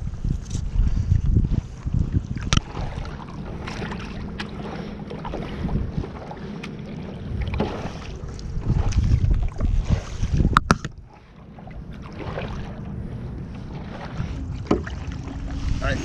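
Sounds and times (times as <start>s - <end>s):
water splashing and lapping: 0.0s - 16.0s
wind buffeting microphone: 0.0s - 16.0s
paddle strokes: 0.5s - 16.0s.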